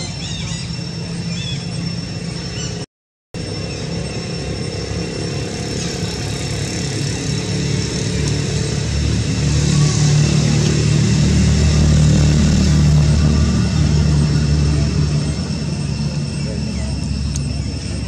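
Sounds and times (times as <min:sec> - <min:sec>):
vehicle engine humming: 0:03.4 - 0:18.0.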